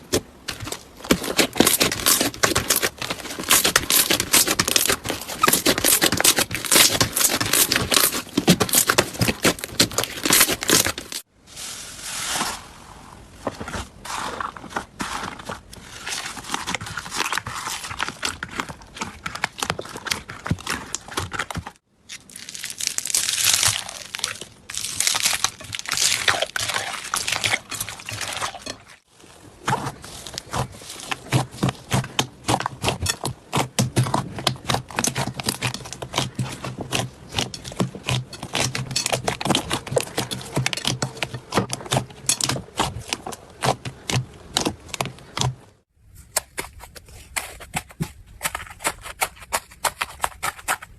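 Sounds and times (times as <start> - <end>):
slime crackling and squelching: 0.0 - 11.3, 14.0 - 45.4.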